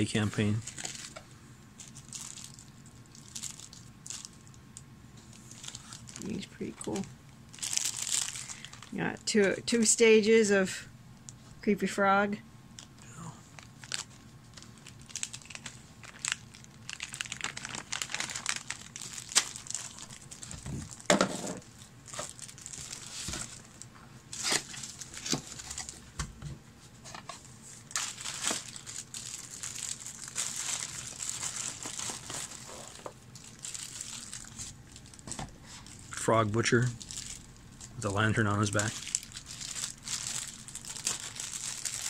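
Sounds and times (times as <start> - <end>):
plastic bags crinkling: 0.0 - 4.6, 5.3 - 9.1, 13.6 - 26.1, 27.7 - 42.0.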